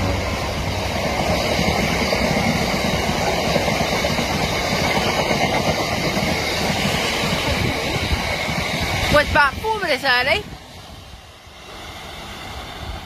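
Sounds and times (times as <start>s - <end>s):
train wheels clattering on rails: 0.0s - 10.9s
freight train rumble: 0.0s - 13.0s.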